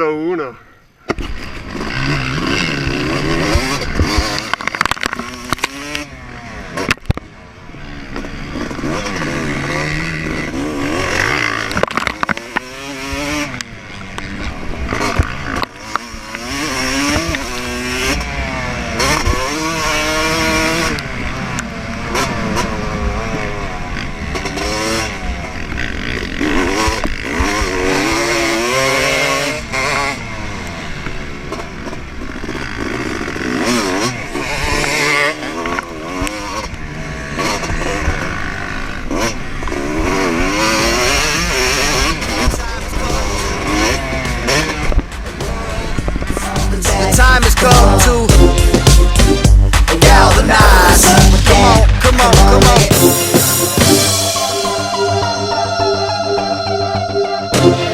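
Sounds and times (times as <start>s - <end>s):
motocross engine revving: 1.2s - 57.9s.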